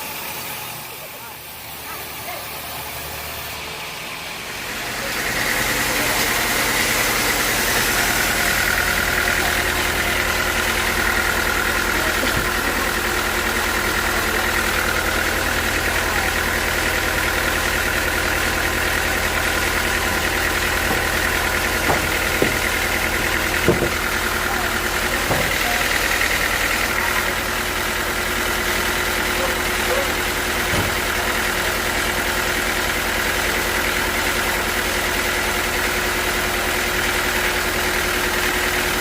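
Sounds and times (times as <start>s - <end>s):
sawmill machinery running: 0.0s - 39.0s.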